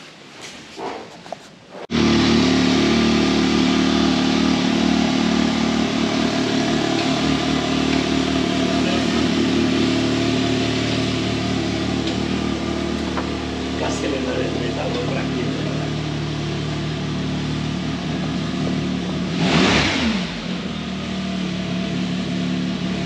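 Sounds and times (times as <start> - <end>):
car engine idling: 1.9 - 23.0.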